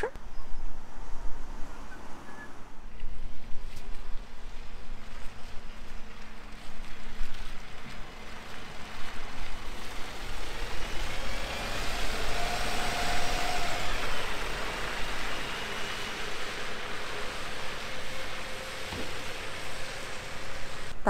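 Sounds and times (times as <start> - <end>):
bus engine rumble: 0.0 - 21.0
tyres on wet road: 0.8 - 21.0.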